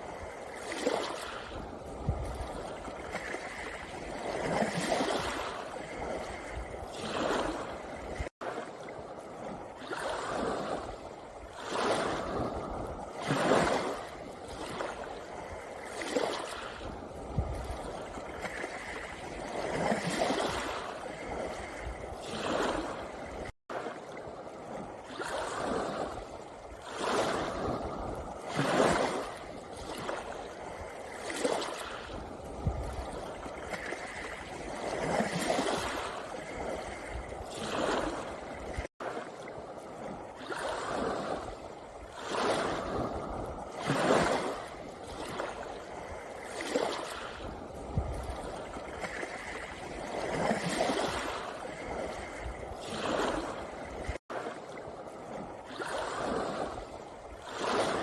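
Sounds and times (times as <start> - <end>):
waves washing over pebble beach: 0.0 - 58.0.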